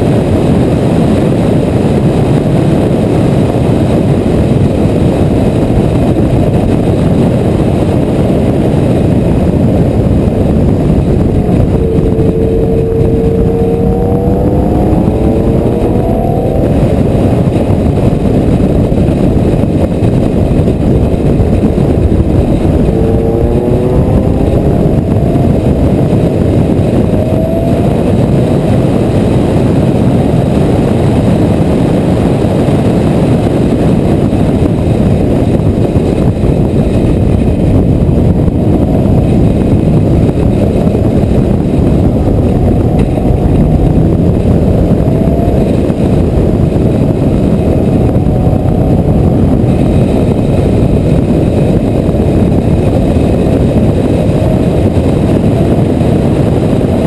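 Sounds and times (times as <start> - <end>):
wind and road noise: 0.0 - 57.0
sports car engine accelerating: 4.7 - 57.0.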